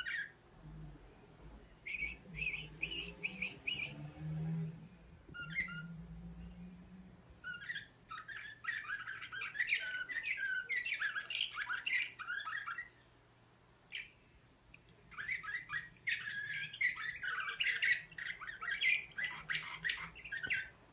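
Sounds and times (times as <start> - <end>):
canary singing: 0.0 - 13.2, 13.9 - 20.9.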